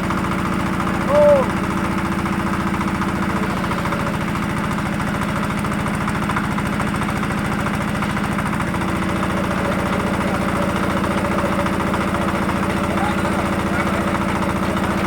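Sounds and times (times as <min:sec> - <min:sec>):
drilling rig engine running: 0:00.0 - 0:15.0.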